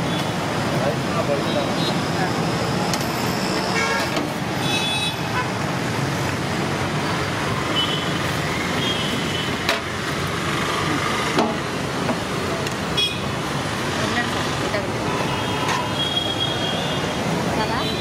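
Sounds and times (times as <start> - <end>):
roadside traffic noise: 0.0 - 18.0.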